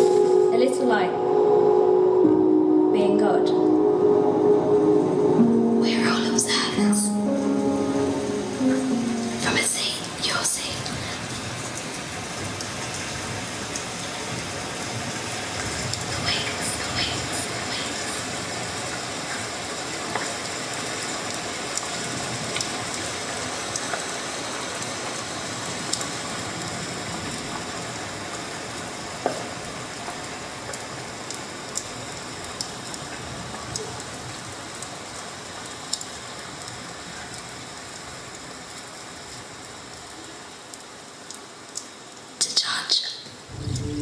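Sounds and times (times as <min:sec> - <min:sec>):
rain-like hiss over speakers: 0:00.0 - 0:44.0.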